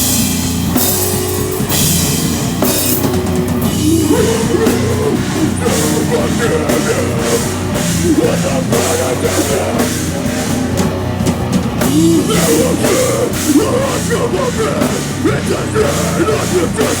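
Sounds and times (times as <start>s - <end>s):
bass guitar: 0.0s - 17.0s
distorted guitars: 0.0s - 17.0s
pounding drum kit: 0.0s - 17.0s.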